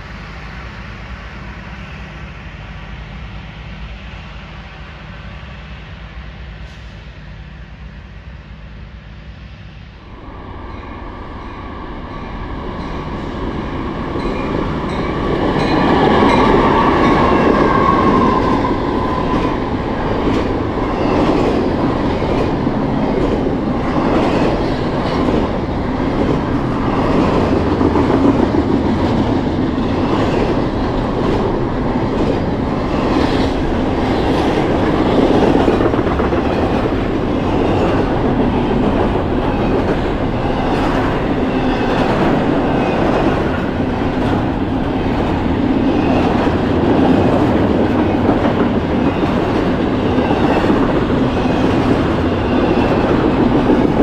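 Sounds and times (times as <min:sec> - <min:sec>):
diesel locomotives passing: 0:00.0 - 0:54.0.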